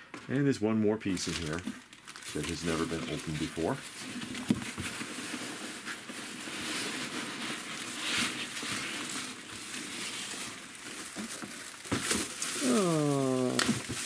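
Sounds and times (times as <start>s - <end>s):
plastic bag and packing peanuts rustling: 0.3s - 14.0s.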